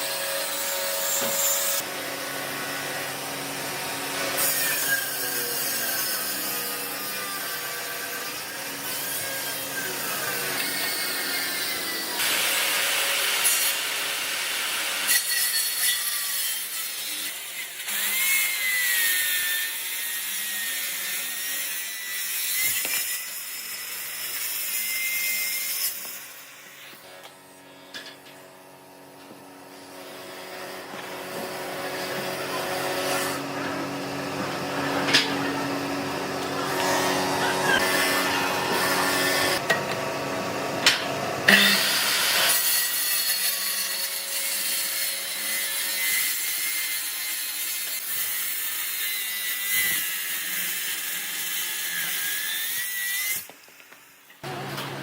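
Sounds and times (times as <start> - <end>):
rough wood cutting noise: 0.0 - 55.0.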